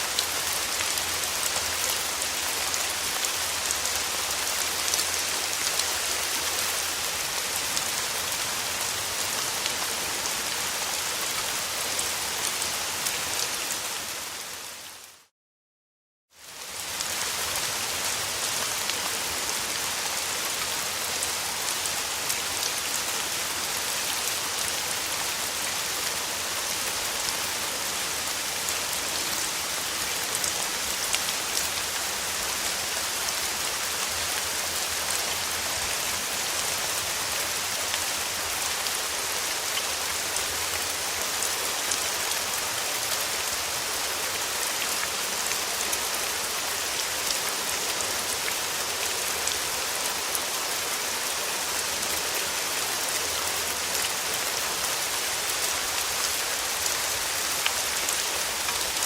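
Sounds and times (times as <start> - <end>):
rain falling on a surface: 0.0 - 15.3, 16.3 - 59.0.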